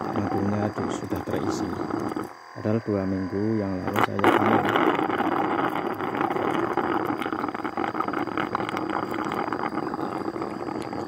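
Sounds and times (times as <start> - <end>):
wet crackling of honey pots: 0.0 - 11.0.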